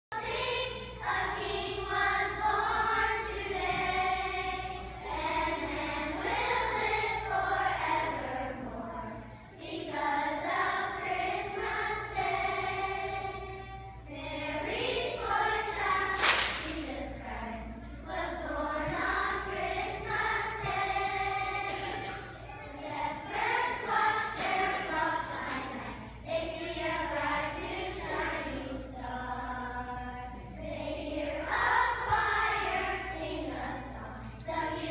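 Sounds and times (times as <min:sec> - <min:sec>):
children's choir singing: 0:00.1 - 0:34.9.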